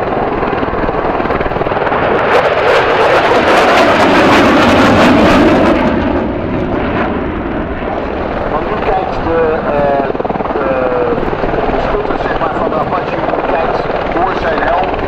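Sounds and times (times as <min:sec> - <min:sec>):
fighter jet passing: 0:00.0 - 0:15.0
helicopter rotor: 0:00.0 - 0:15.0.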